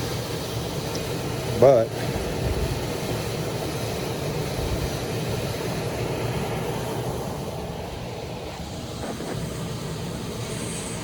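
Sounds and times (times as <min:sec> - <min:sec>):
furnace blower fan running: 0:00.0 - 0:11.0.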